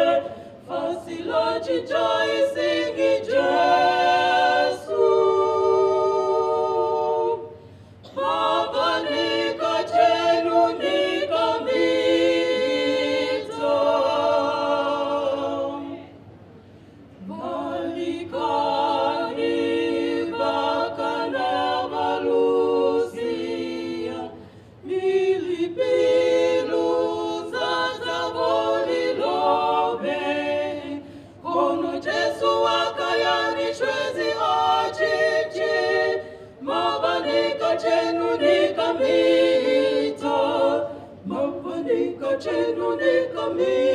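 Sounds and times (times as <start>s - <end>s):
women singing in harmony: 0.0s - 16.2s, 17.2s - 43.9s.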